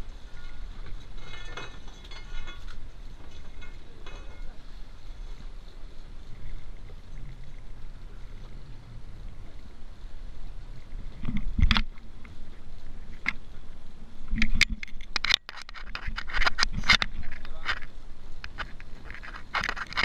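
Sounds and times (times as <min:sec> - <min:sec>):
low steady rumble: 0:00.0 - 0:19.6.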